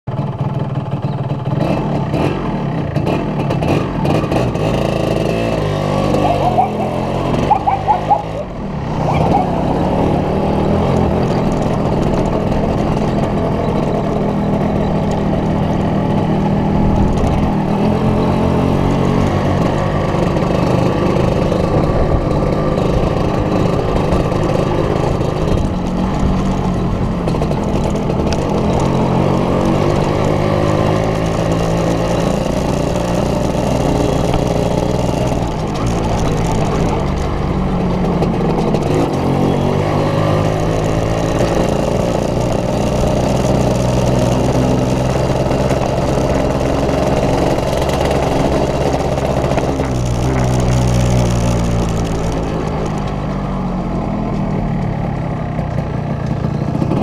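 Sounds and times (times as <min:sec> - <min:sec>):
two-stroke motorcycle engine running: 0:00.1 - 0:57.0.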